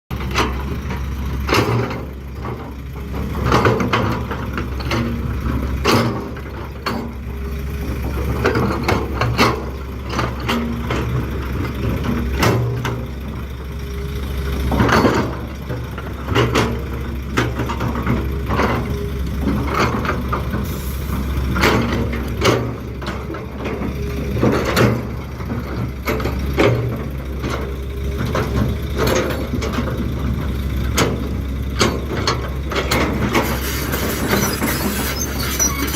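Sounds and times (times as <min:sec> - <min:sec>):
diesel excavator engine running: 0:00.1 - 0:35.9.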